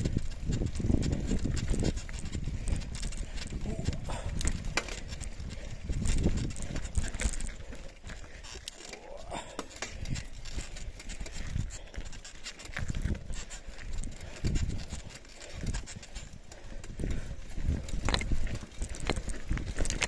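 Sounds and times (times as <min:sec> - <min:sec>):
bike rattling: 0:00.0 - 0:20.0
tyres crunching on stones: 0:00.0 - 0:20.0.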